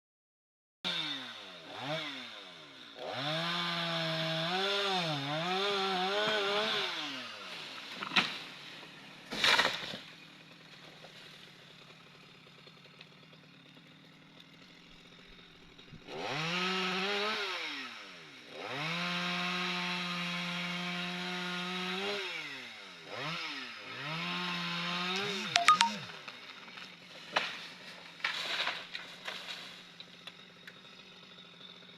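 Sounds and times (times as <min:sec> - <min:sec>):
chainsaw revving: 0:00.9 - 0:31.9.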